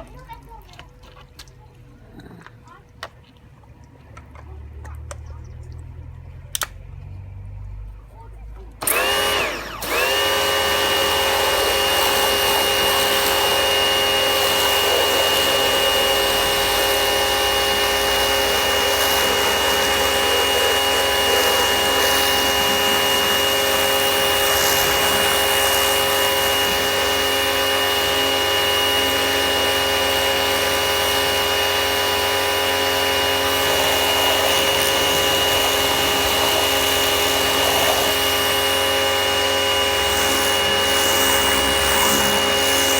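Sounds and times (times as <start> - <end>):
pressure washer motor whining: 4.3 - 42.9.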